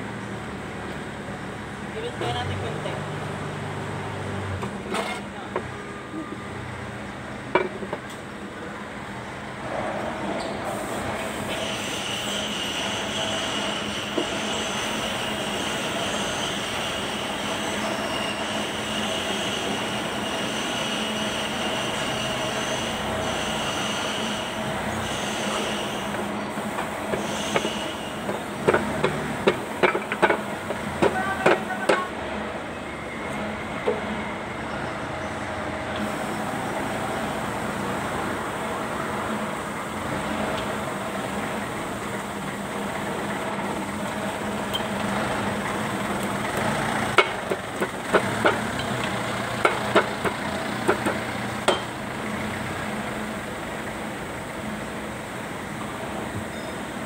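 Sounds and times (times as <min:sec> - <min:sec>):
workshop background hum: 0:00.0 - 0:57.0.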